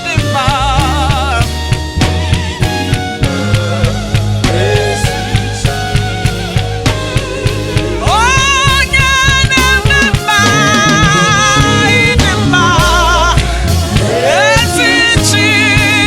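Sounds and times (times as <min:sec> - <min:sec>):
solo voice singing with vibrato: 0:00.0 - 0:01.8, 0:02.4 - 0:16.0
bass: 0:00.0 - 0:16.0
drum kit: 0:00.0 - 0:16.0.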